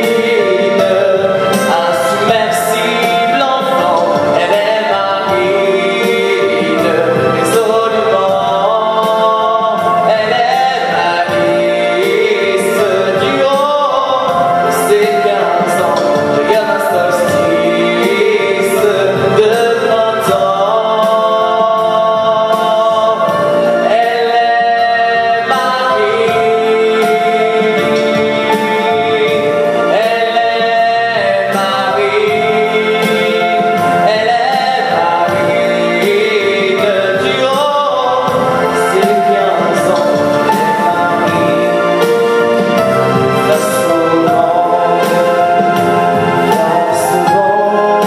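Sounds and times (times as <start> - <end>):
man singing: 0.0 - 48.0
musical accompaniment: 0.0 - 48.0.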